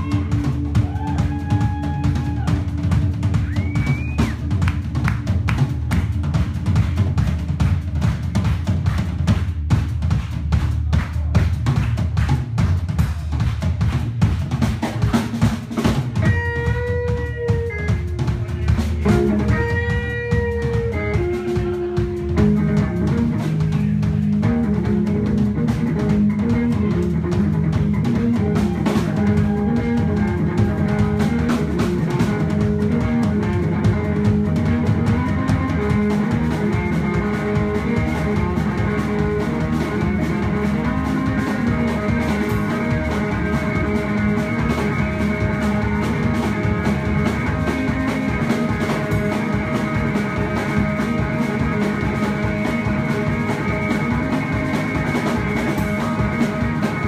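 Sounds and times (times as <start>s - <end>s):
electric guitar: 0.0s - 10.3s, 13.8s - 57.0s
rock drum kit playing: 0.0s - 57.0s.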